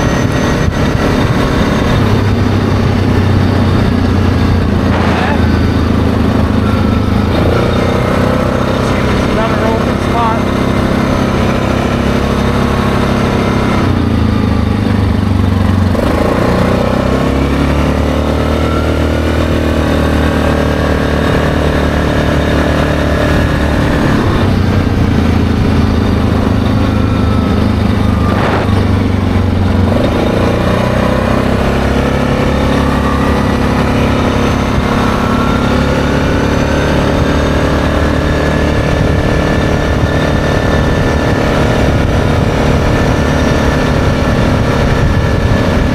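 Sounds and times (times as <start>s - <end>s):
atv engine running: 0.0s - 45.9s
tyres on gravel road: 0.0s - 45.9s.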